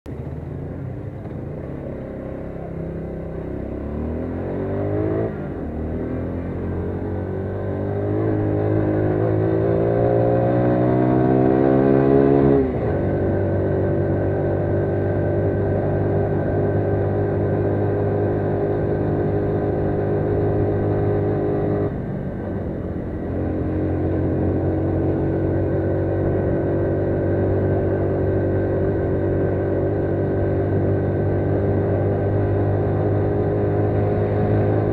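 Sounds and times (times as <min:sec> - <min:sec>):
motorcycle engine revving uphill: 0:00.1 - 0:34.9.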